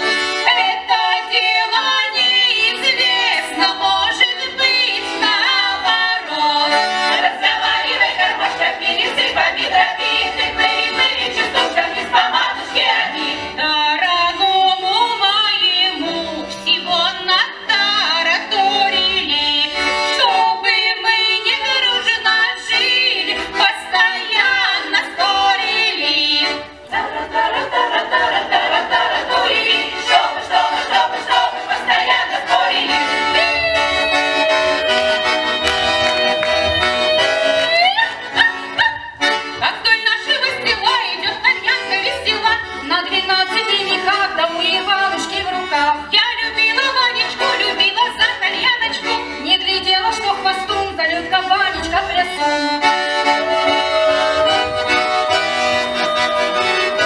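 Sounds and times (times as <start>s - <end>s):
accordion: 0.0s - 57.0s
women's folk choir singing: 0.0s - 57.0s.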